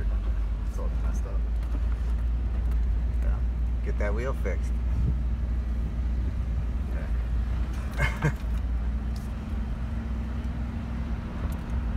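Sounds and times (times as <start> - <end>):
engine and tyre rumble: 0.0 - 11.9.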